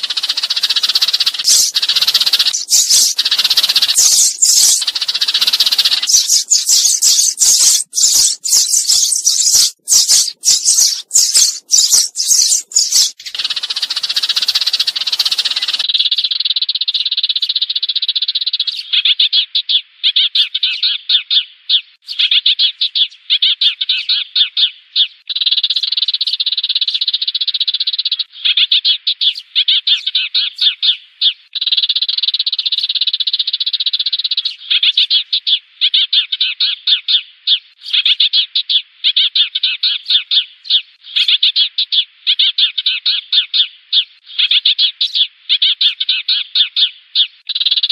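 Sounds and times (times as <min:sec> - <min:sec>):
sparrows chattering: 0:00.0 - 0:47.9.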